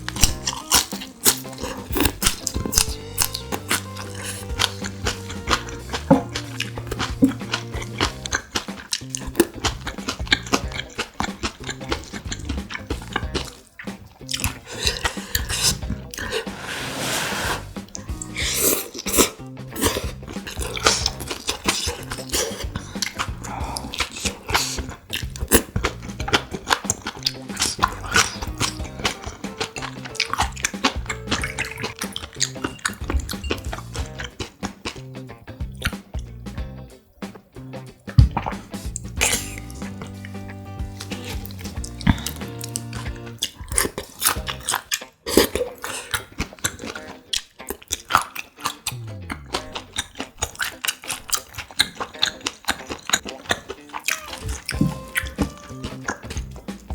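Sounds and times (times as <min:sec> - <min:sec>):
mouth clicks: 0:00.0 - 0:16.5, 0:17.8 - 0:56.9
chewing and biting food: 0:00.0 - 0:16.6, 0:17.7 - 0:36.6, 0:37.3 - 0:56.9
background music with low notes: 0:00.0 - 0:56.9.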